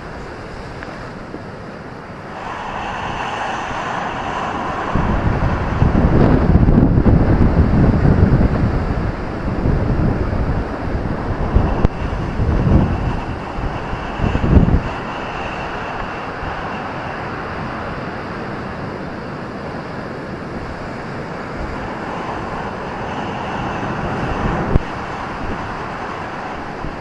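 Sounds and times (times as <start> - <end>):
surf waves breaking: 0.0 - 27.0
wind buffeting microphone: 0.0 - 27.0.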